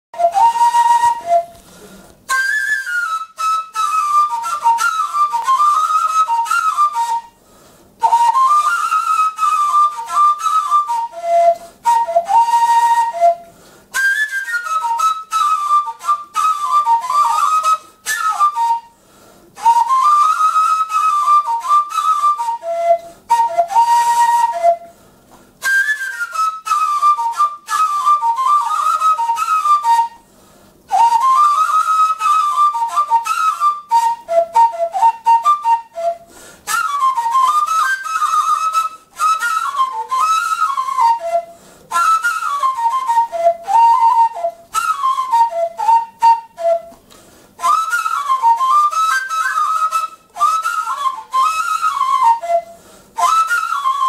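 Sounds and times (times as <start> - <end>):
wooden flute folk tune: 0.1 - 54.0.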